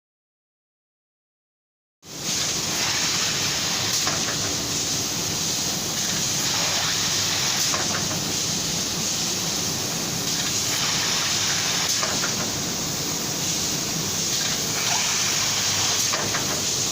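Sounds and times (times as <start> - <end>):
hot air blower hissing: 2.1 - 16.9.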